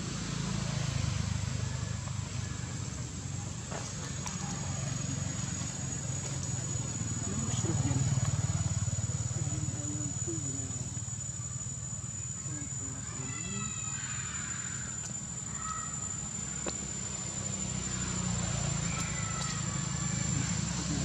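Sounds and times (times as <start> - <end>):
distant traffic rumble: 0.0 - 21.0
faint distant voices: 0.0 - 21.0.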